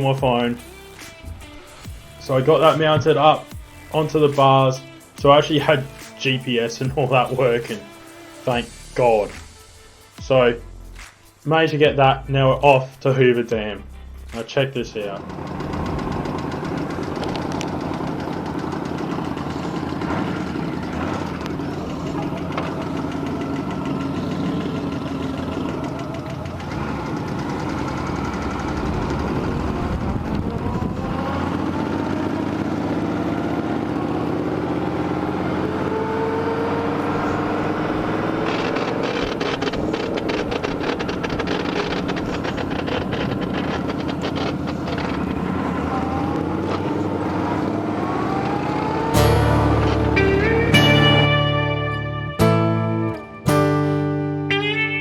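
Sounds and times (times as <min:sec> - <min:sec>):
motorcycle engine accelerating: 0:00.0 - 0:09.7, 0:13.6 - 0:55.0.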